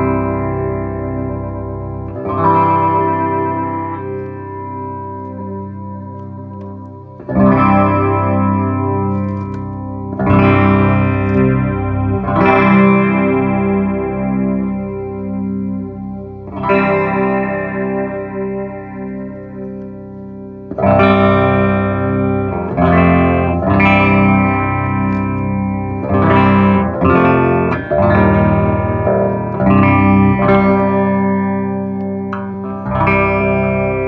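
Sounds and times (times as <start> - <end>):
electric guitar chords with chorus: 0.0 - 34.0.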